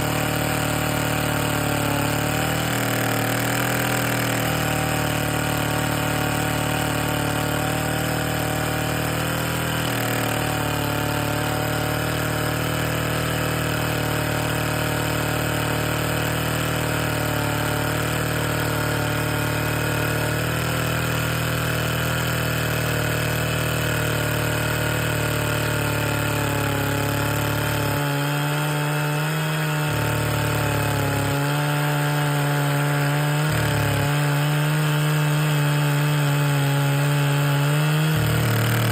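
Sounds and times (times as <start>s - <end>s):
two-stroke chainsaw engine running: 0.0s - 38.9s.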